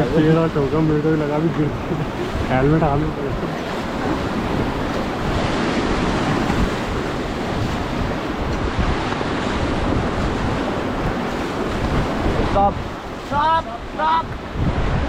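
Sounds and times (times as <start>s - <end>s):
rushing whitewater: 0.0s - 15.0s
wind noise on microphone: 0.0s - 15.0s.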